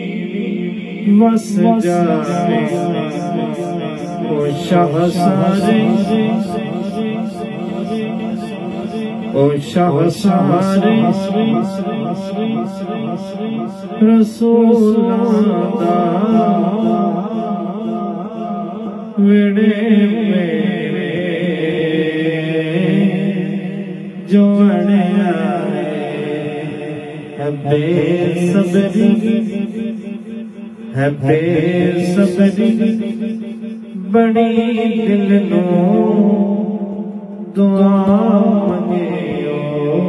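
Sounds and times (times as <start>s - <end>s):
chanted vocal music over a beat: 0.0s - 40.0s.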